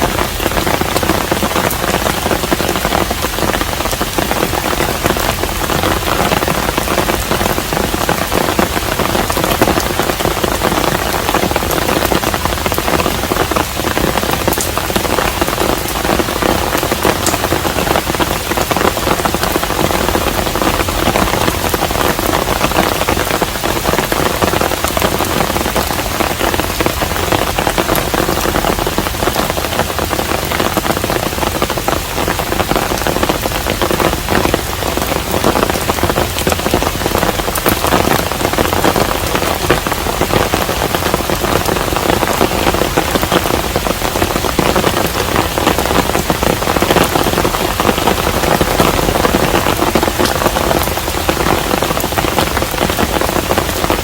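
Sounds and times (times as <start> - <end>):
rain falling on a house: 0.0 - 54.0
raindrops striking close by: 0.0 - 54.0.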